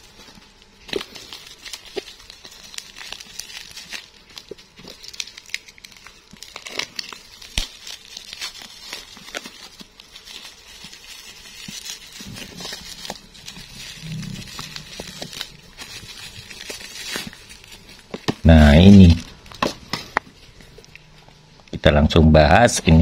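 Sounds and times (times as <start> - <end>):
bubble wrap crackling: 0.0 - 23.0.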